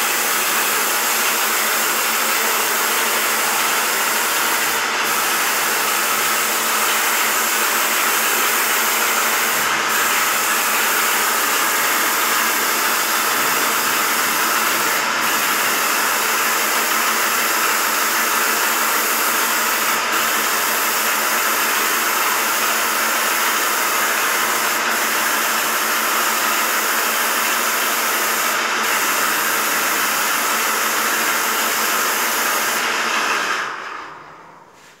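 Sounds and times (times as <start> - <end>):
paint sprayer hissing: 0.0 - 33.9.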